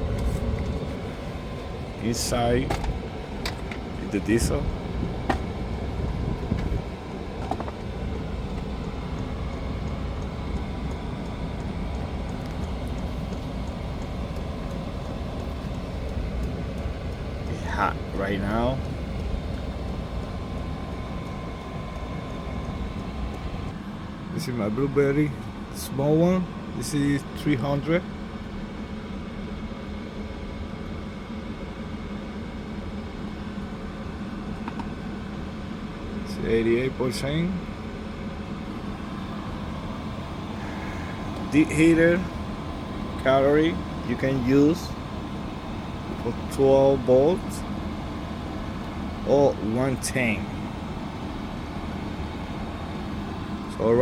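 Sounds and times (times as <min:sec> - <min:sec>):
diesel heater low rumble: 0:00.0 - 0:54.0.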